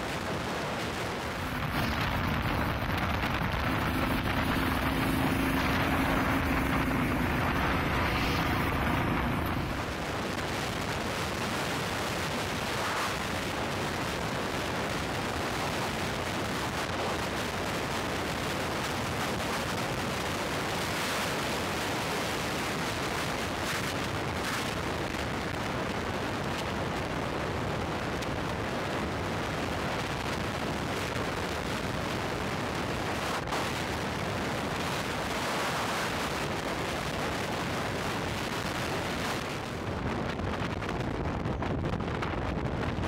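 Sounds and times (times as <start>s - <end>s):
wind buffeting microphone: 0.0s - 20.4s, 23.4s - 43.0s.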